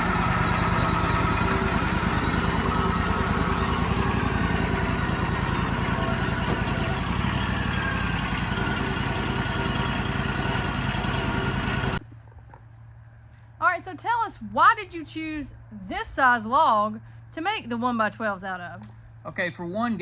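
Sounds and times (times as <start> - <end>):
engine running steadily: 0.0 - 19.7.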